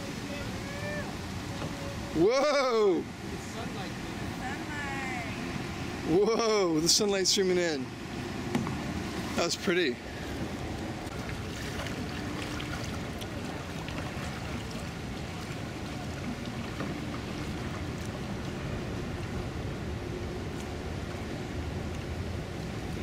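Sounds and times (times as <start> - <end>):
water rushing around canoes: 0.0 - 23.0.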